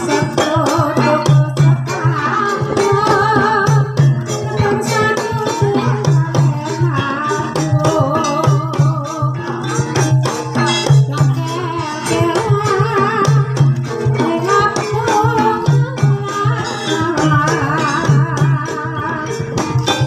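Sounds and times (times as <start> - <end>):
drum strokes: 0.0 - 20.0
gamelan ensemble playing: 0.0 - 20.0
metallic percussion: 0.0 - 20.0
wavering high melody: 0.0 - 20.0.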